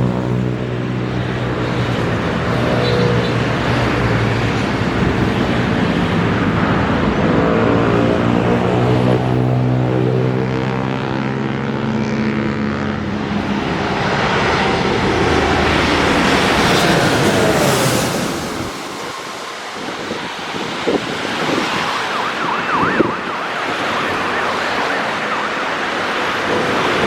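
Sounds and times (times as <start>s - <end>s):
airliner passing overhead: 0.0s - 27.0s.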